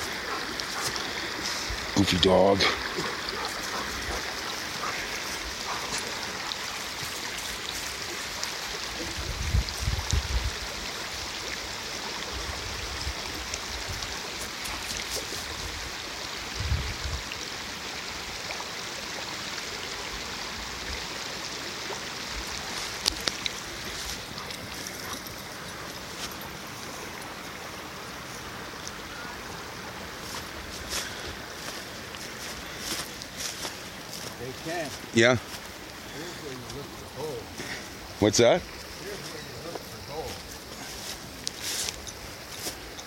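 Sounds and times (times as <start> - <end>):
creek rushing over gravel: 0.0 - 43.0.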